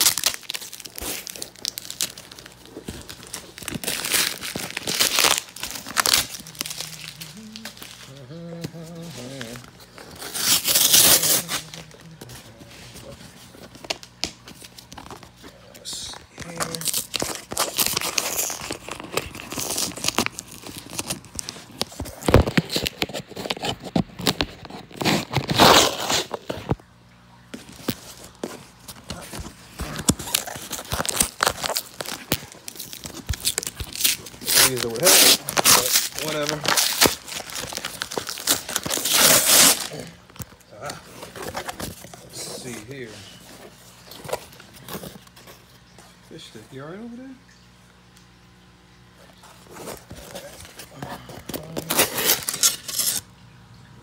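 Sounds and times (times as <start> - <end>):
cardboard box crinkling and tearing: 0.0 - 26.7, 27.6 - 46.2, 49.2 - 53.3.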